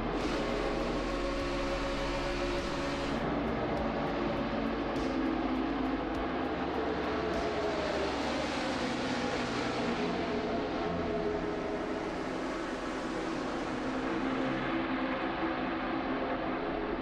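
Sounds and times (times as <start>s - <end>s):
racing car engines droning: 0.0s - 17.0s.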